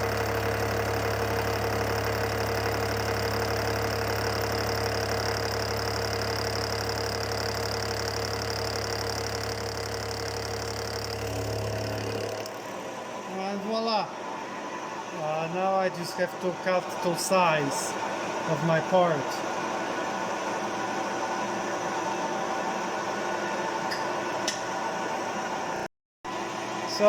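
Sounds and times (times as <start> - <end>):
milling machine hum: 0.0 - 27.0.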